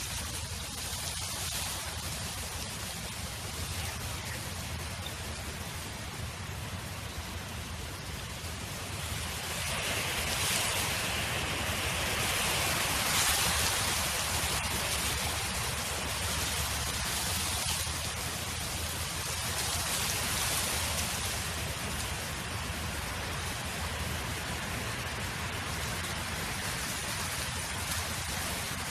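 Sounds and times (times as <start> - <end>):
wind blowing: 0.0 - 28.9.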